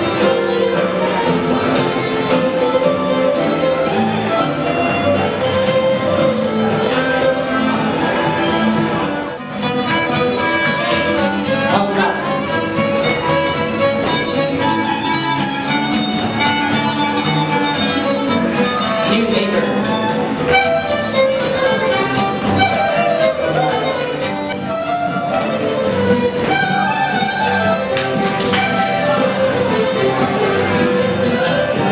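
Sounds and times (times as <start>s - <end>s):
fiddle string-band music: 0.0s - 31.9s.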